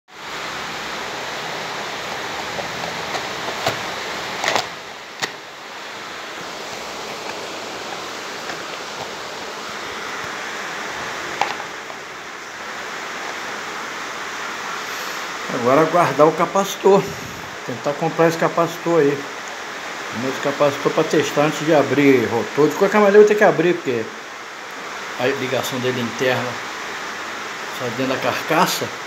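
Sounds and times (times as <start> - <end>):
steady rushing hiss: 0.1 - 29.0.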